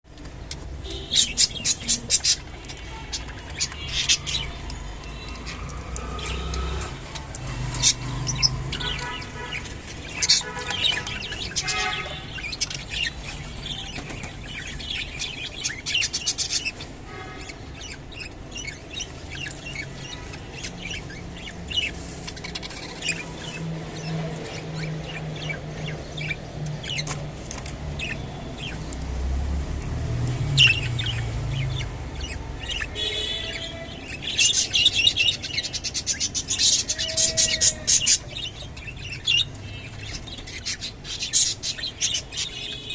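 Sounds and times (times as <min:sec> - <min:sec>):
budgerigars chirping and warbling: 0:00.4 - 0:29.2, 0:29.8 - 0:42.9.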